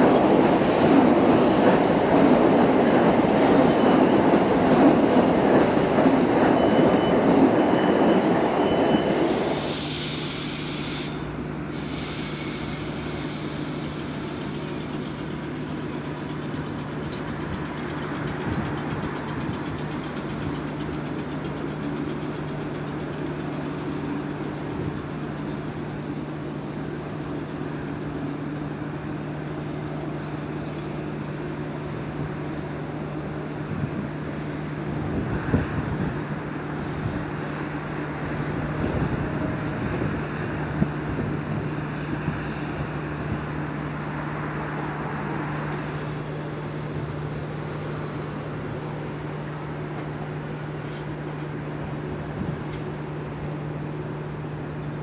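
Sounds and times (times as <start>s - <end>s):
electric train hum and rumble: 0.0s - 55.0s.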